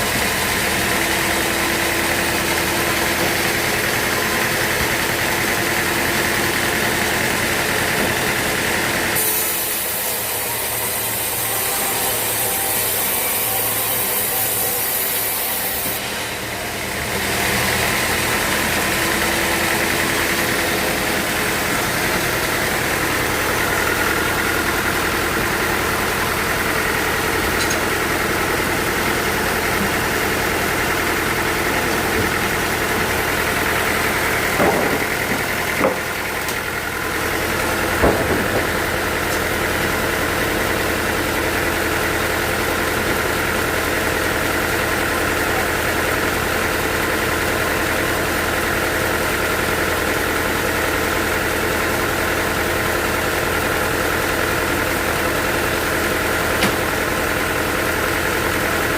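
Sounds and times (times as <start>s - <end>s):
sawmill machinery humming: 0.0s - 58.9s.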